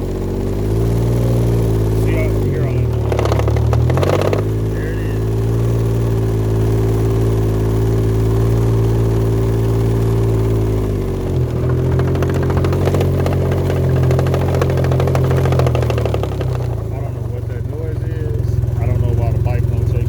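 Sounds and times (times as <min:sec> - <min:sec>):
loud drivetrain rattling clatter: 0:00.0 - 0:20.0
motorcycle engine running: 0:00.0 - 0:20.0.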